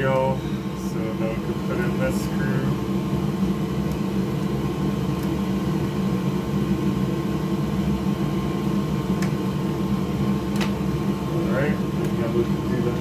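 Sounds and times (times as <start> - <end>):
fan machine hum: 0.0 - 13.0.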